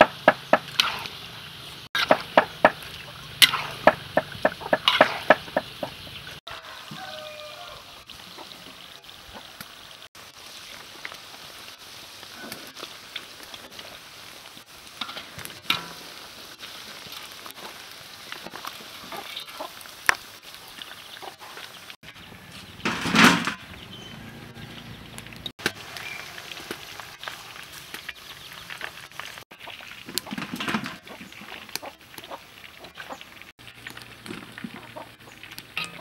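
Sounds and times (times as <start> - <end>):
oil sizzling: 0.0 - 36.0.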